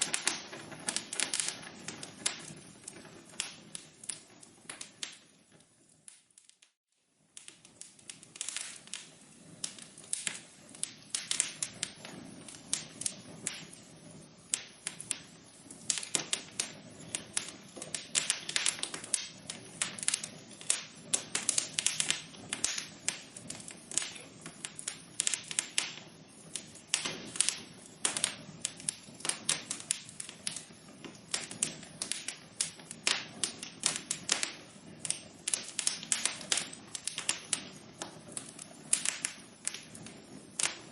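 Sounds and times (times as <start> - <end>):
soft steady hiss: 0.0 - 40.9
wood fire crackling and popping: 0.0 - 40.9.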